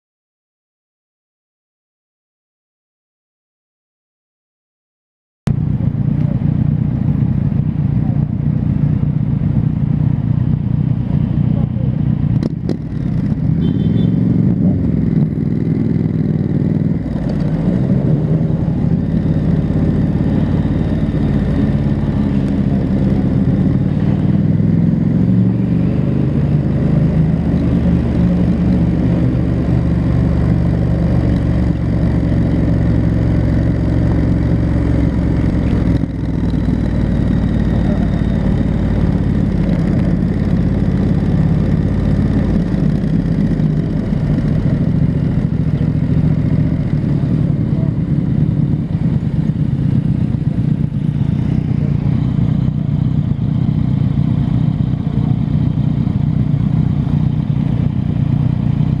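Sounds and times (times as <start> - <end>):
motorcycle engine running: 5.5 - 59.0.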